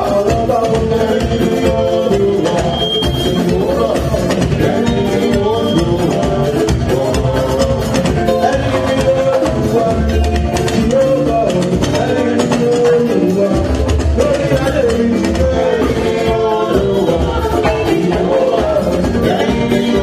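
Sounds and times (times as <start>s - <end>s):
music with melody and beat: 0.0s - 20.0s.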